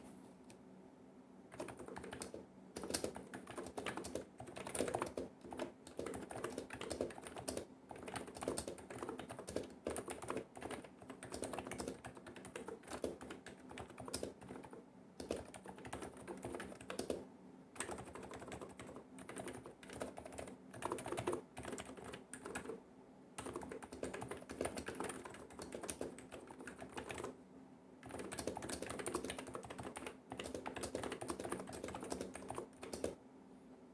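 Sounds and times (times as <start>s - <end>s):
typing on a keyboard: 1.5s - 17.2s, 17.8s - 22.8s, 23.4s - 27.4s, 28.0s - 33.2s.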